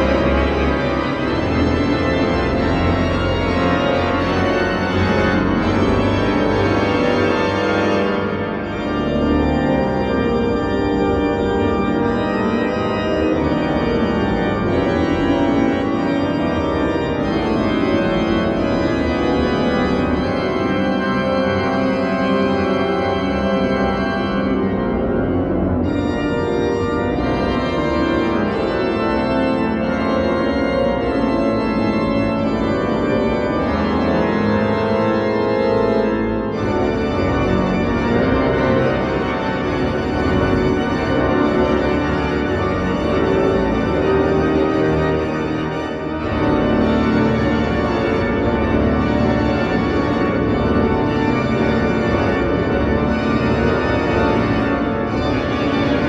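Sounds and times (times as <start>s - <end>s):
church organ playing a hymn: 0.0s - 56.0s.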